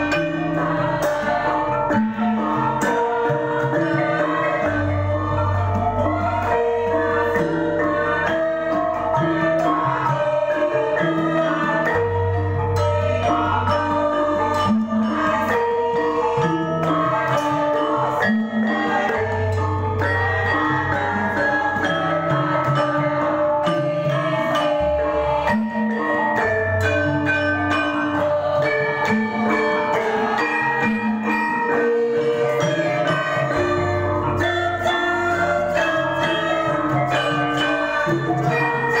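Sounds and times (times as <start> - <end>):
gongs and metallophones ringing: 0.0 - 39.0.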